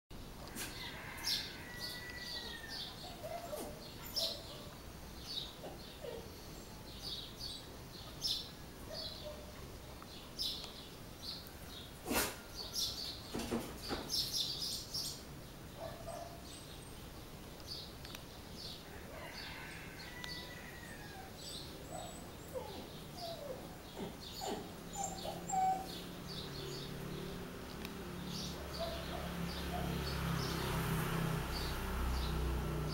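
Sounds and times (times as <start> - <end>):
birds chirping: 0.8 - 32.9.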